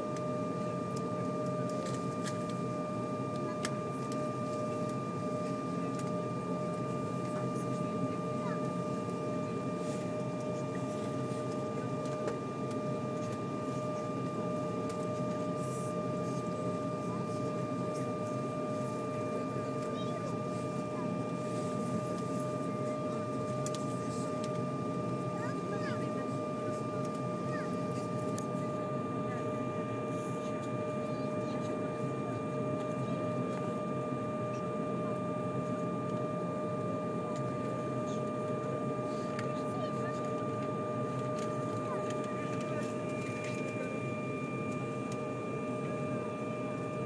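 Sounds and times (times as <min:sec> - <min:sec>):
airliner cabin machine drone: 0:00.0 - 0:47.0
constant whine: 0:00.0 - 0:47.0.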